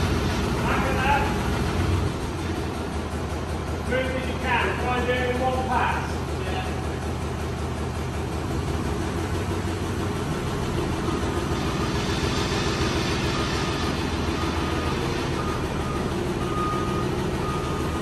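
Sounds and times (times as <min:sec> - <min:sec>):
lifting machine engine running: 0:00.0 - 0:18.0.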